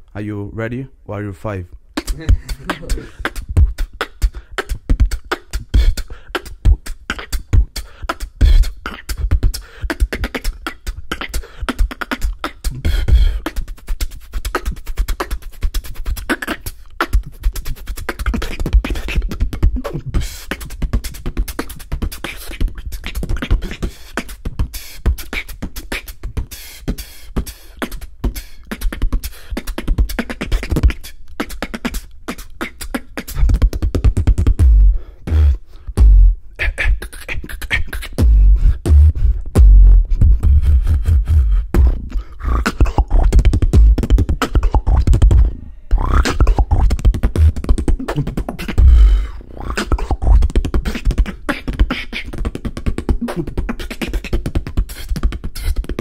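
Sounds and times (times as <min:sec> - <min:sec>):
person beatboxing: 0:01.6 - 0:56.0.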